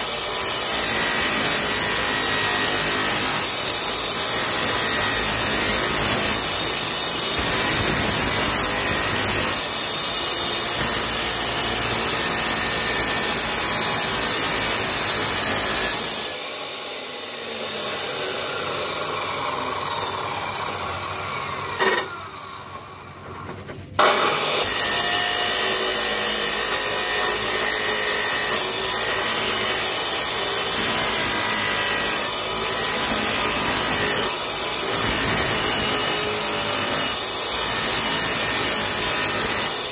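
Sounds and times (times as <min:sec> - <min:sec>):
cut-off saw grinding steel: 0:00.0 - 0:23.0, 0:23.9 - 0:39.9.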